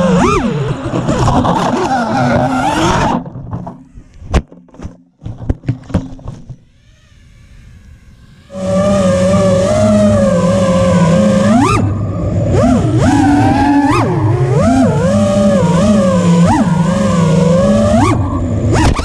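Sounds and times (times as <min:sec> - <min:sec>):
drone motors whining: 0:00.0 - 0:19.0
drone hitting branches: 0:03.3 - 0:19.0.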